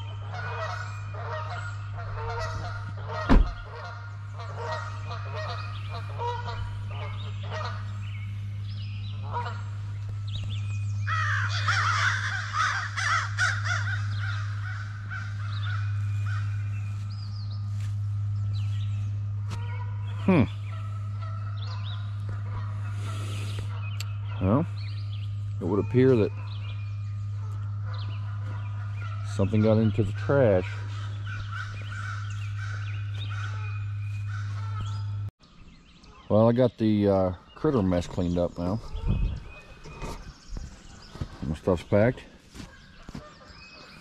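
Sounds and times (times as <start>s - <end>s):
geese honking: 0.0s - 35.3s
low hum: 0.0s - 36.2s.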